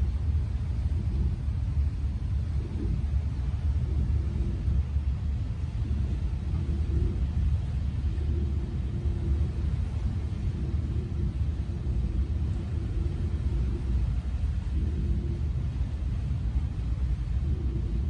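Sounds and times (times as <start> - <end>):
boat engine and hull rumble: 0.0 - 18.0
faint hum: 0.0 - 18.0.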